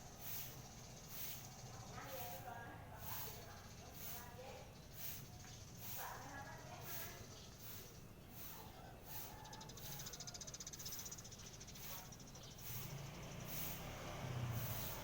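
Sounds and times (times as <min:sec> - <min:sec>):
low traffic hum: 0:00.0 - 0:15.0.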